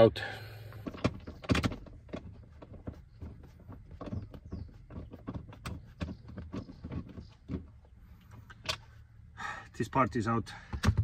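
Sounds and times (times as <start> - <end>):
light clicks and knocks of car seat: 0.7 - 9.1, 9.8 - 11.0.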